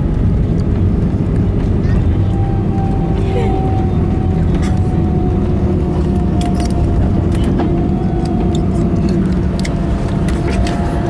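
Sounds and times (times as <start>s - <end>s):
aircraft cabin rumble: 0.0s - 11.0s
engine whine: 0.0s - 11.0s.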